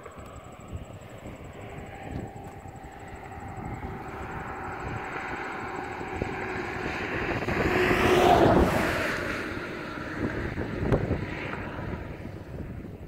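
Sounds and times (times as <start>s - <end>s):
vehicle passing close by: 0.0s - 13.0s.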